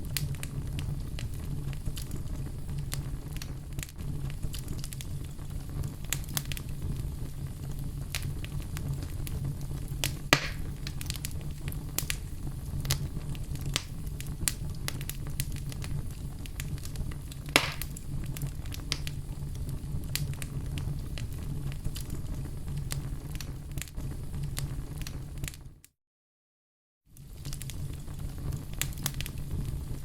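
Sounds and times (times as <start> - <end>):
loud fire pops: 0.0 - 25.6, 27.2 - 30.0
fire crackling in fireplace: 0.0 - 25.9, 27.1 - 30.0.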